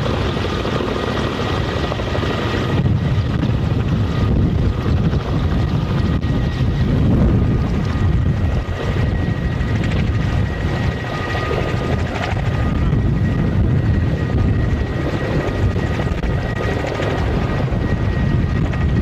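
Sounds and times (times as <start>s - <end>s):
helicopter rotors beating: 0.0s - 19.0s.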